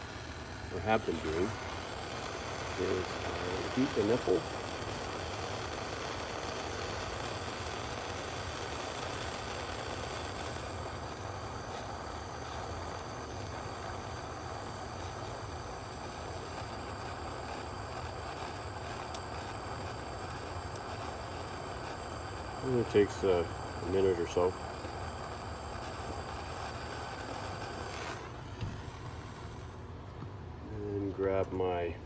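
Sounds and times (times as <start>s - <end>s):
propane torch hissing: 0.0s - 30.0s, 30.7s - 32.0s.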